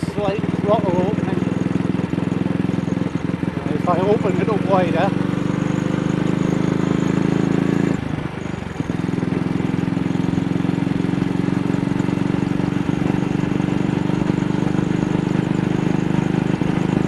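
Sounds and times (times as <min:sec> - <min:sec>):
motorcycle engine misfiring: 0:00.0 - 0:17.0.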